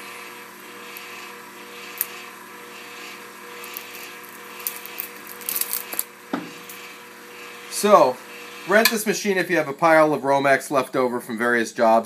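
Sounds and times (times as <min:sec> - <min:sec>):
wire stripper motor humming: 0:00.0 - 0:09.7.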